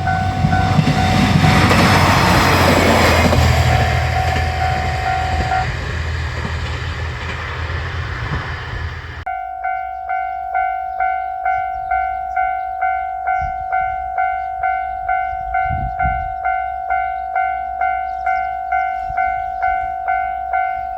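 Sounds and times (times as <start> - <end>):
level-crossing warning bell: 0.0 - 7.9, 9.2 - 20.9.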